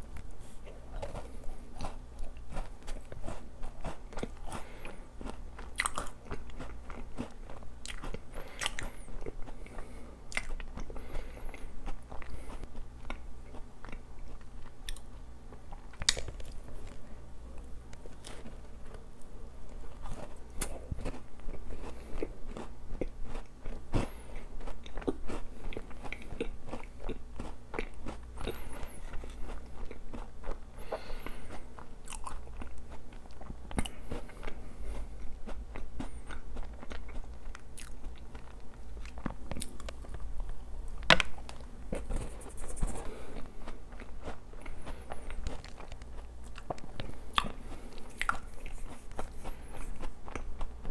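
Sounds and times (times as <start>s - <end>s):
person chewing and biting donut: 0.0s - 50.9s.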